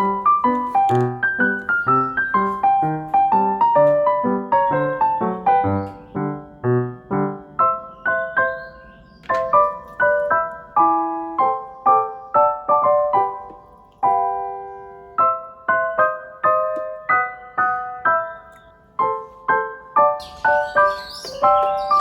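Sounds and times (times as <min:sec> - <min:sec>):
gentle solo piano: 0:00.0 - 0:22.0.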